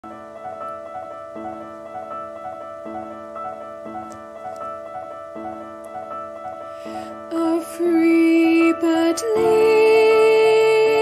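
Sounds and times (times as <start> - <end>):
soft piano playing: 0.0 - 11.0.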